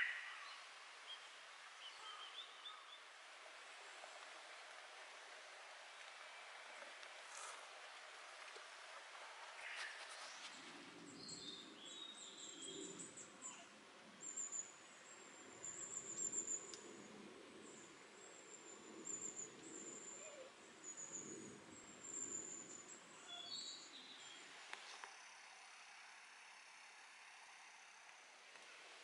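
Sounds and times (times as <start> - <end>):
faint high-pitched birdsong: 0.0 - 28.4.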